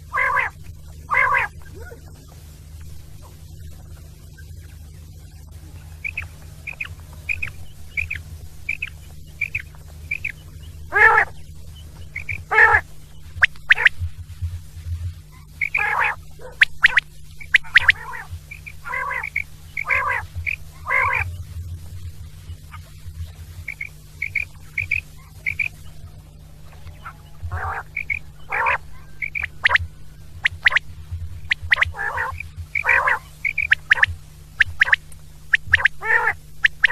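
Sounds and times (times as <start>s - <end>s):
rough quail calls: 0.0s - 4.6s, 5.4s - 14.1s, 15.2s - 21.6s, 22.5s - 36.9s
quail chirps: 0.0s - 14.5s, 15.2s - 36.9s
low hum: 0.0s - 36.9s.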